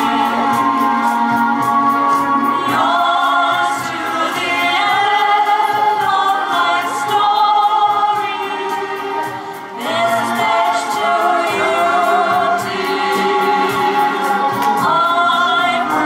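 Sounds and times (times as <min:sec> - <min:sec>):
musical accompaniment: 0:00.0 - 0:16.0
woman singing into microphone: 0:02.1 - 0:16.0.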